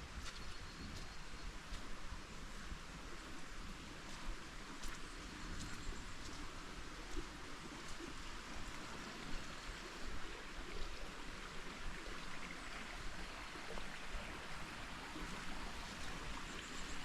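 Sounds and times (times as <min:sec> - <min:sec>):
creek water flowing over rocks: 0:00.0 - 0:17.0.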